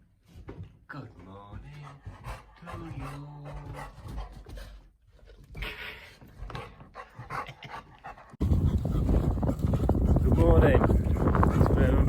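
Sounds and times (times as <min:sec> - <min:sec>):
dog panting: 0:01.5 - 0:12.0.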